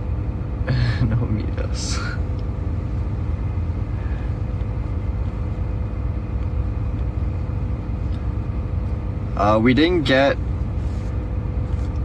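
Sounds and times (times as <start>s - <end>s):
faint even hum: 0.0s - 12.0s.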